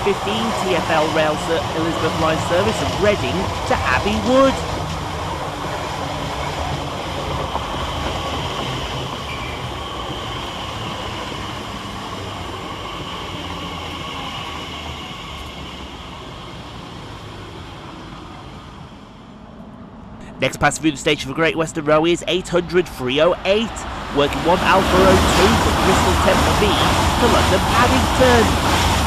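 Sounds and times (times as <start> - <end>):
train wheels on rail: 0.0 - 19.8, 23.3 - 29.0.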